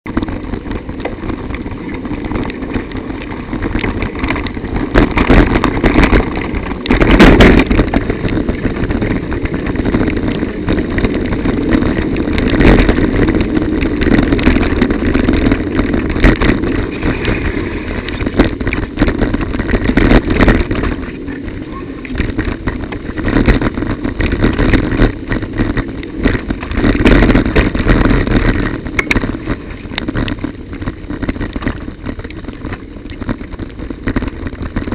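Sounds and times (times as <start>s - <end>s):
bicycle tyre noise: 0.0s - 34.9s
wind buffeting microphone: 0.0s - 34.9s
bike knocks and rattles: 0.1s - 34.9s
bike jolting into pothole: 0.2s - 33.3s.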